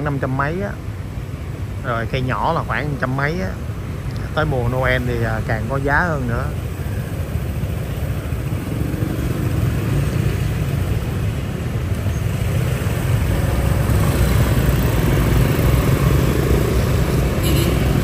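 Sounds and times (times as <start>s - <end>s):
motorbike and car engines: 0.0s - 18.0s.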